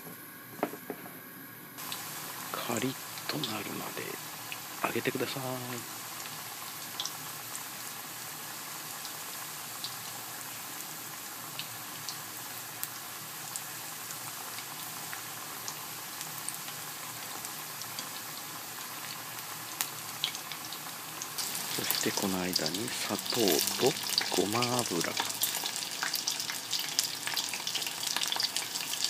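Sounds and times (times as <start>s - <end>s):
tofu deep-frying in oil: 1.8s - 29.0s.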